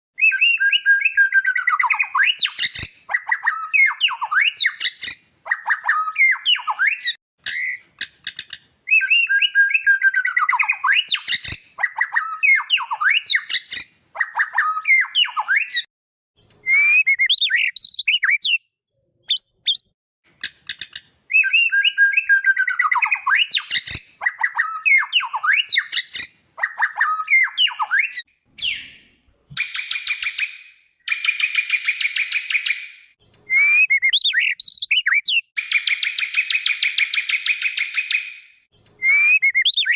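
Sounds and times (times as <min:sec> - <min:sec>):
bird singing whistled song: 0:00.2 - 0:15.9, 0:16.6 - 0:39.9.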